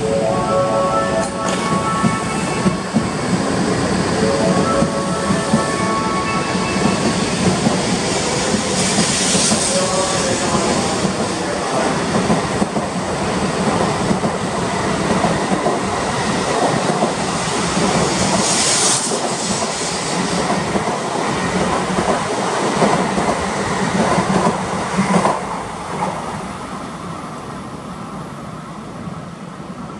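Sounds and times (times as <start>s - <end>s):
train rolling past: 0.0s - 29.9s.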